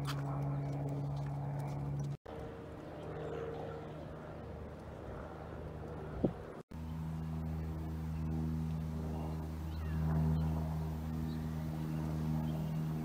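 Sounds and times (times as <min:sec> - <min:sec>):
airplane engine droning: 0:00.0 - 0:13.0.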